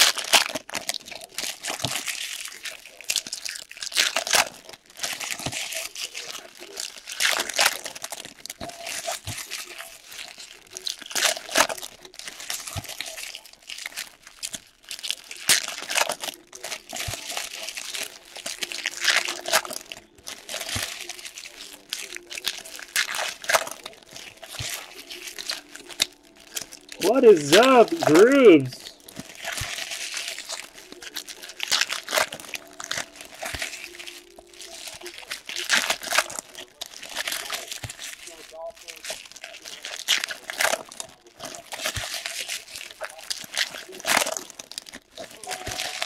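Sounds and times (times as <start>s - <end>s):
wrappers crinkling and tearing: 0.0s - 46.0s.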